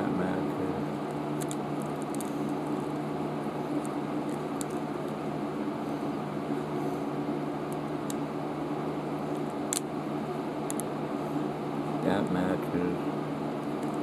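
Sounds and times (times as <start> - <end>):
fan-like low hum: 0.0 - 14.0.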